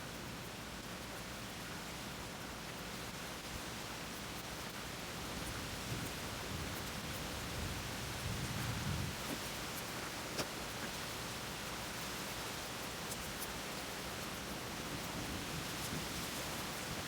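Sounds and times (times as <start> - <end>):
steady rain hissing: 0.0 - 17.0.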